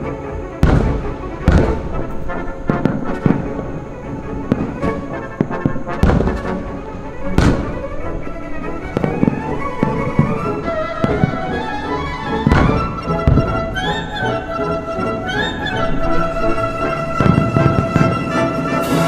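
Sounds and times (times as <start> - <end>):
fireworks bursting: 0.0 - 19.0
orchestral music: 0.0 - 19.0.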